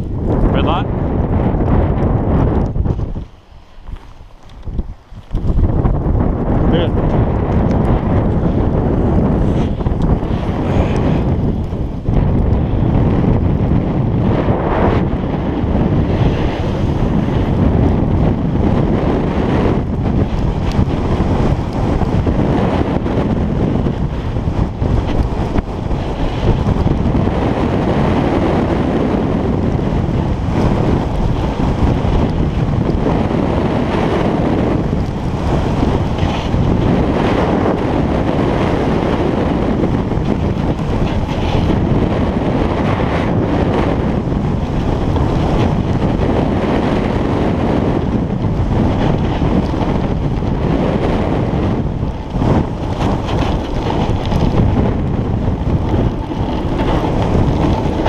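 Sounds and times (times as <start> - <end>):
snowboard sliding over snow: 0.0 - 58.0
wind buffeting microphone: 0.0 - 58.0.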